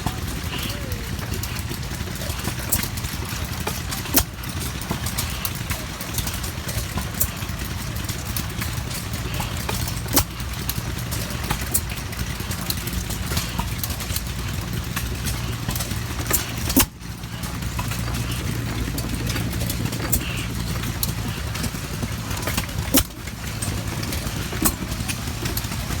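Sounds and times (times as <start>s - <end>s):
faint engine ticks: 0.0s - 26.0s
sharp engine reports: 0.0s - 26.0s
single-cylinder engine running: 0.0s - 26.0s.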